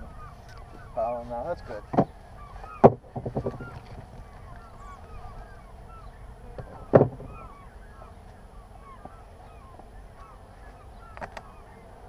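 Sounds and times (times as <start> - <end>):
distant birds calling: 0.0 - 12.0.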